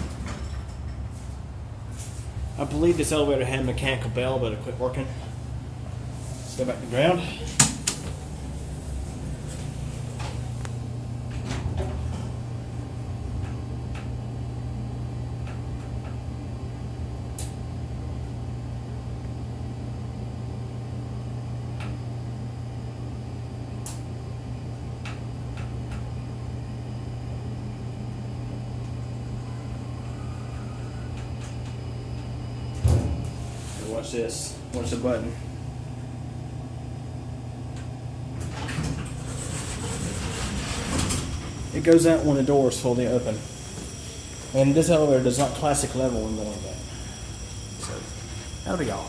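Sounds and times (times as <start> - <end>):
elevator low hum: 0.0 - 49.0.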